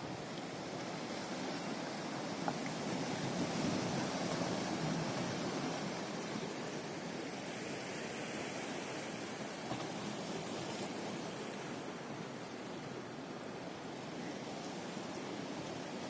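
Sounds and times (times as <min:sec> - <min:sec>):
small waves lapping at shore: 0:00.0 - 0:16.0
wind: 0:00.0 - 0:16.0.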